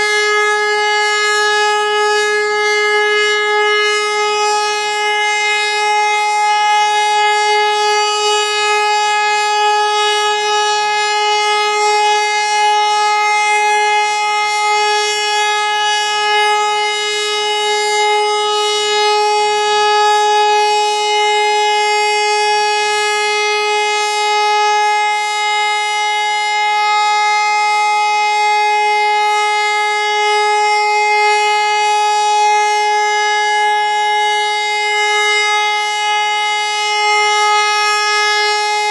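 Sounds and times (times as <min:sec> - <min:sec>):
siren steady tone: 0:00.0 - 0:38.9.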